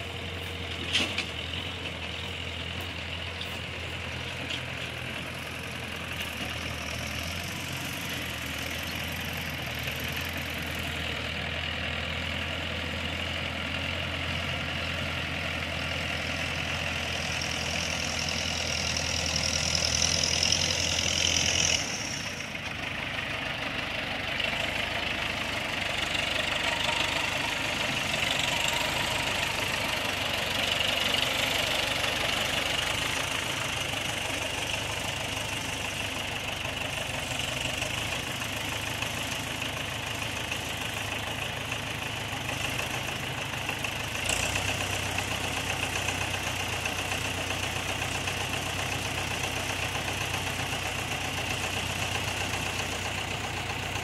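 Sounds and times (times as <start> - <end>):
tractor engines idling: 0.0 - 54.0.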